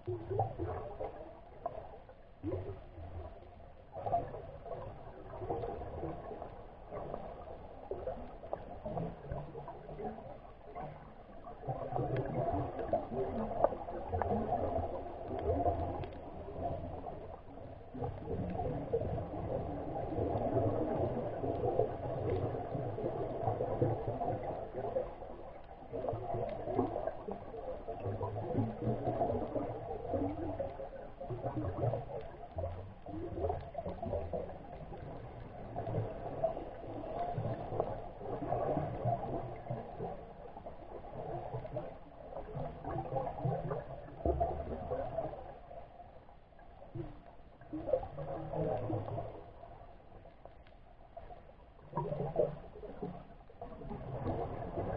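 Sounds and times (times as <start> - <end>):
muffled underwater rumble: 0.0 - 54.9.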